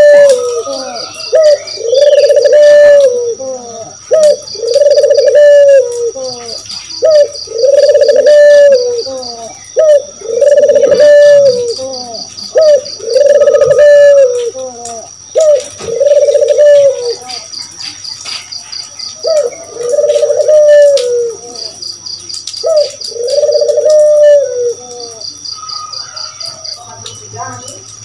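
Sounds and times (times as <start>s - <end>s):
dove cooing: 0.0s - 17.7s, 19.2s - 21.8s, 22.6s - 26.8s
faint high chirping: 0.0s - 28.0s.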